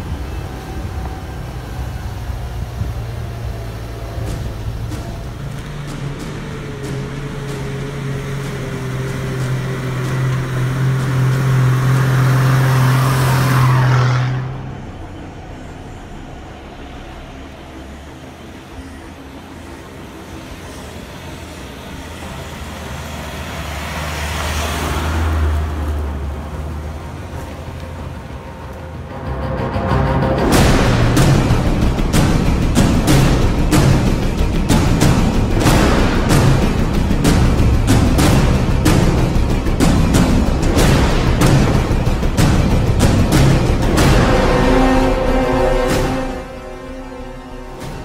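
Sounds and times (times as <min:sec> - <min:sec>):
vehicles passing on gravel track: 0:00.0 - 0:48.0.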